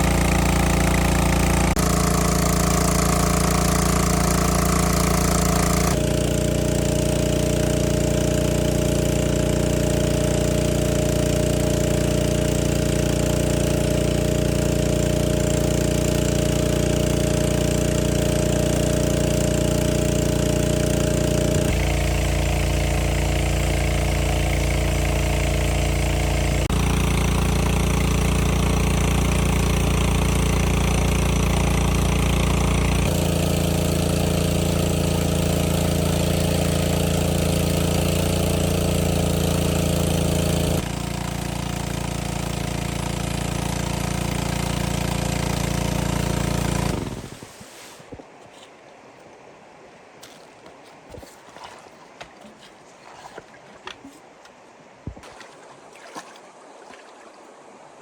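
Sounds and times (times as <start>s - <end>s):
small boat engine knocking: 0.0s - 47.3s.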